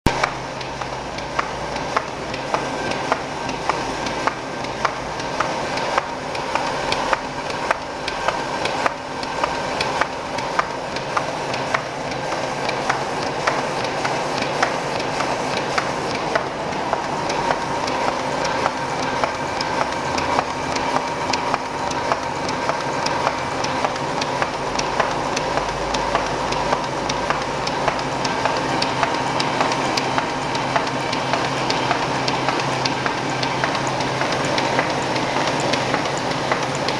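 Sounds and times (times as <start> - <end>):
machine clattering: 0.1 - 36.9
sharp mechanical clicks: 0.1 - 36.9.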